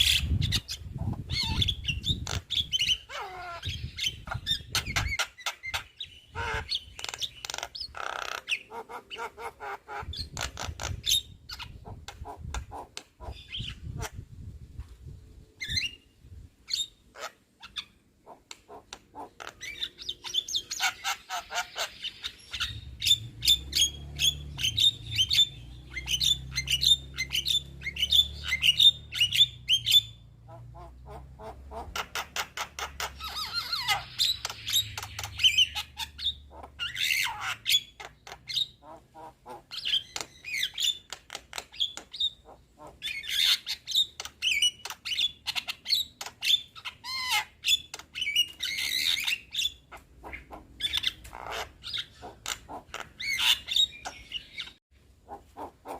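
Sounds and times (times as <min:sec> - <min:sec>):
bird chattering and squawking: 0:00.0 - 0:14.5, 0:15.6 - 0:55.9.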